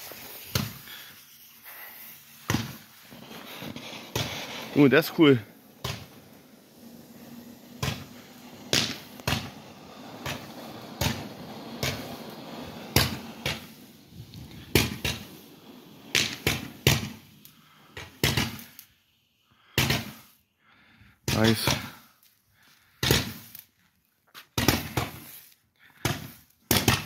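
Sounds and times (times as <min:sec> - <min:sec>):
firework cracks: 0:00.0 - 0:20.4, 0:21.2 - 0:23.8, 0:24.5 - 0:27.0
firework fountain hissing: 0:00.0 - 0:23.8, 0:24.5 - 0:27.0.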